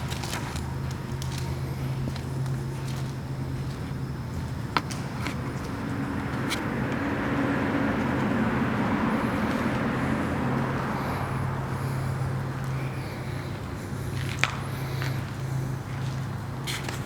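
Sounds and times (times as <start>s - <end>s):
steady low hum: 0.0s - 17.0s
vehicle passing by: 0.0s - 17.0s.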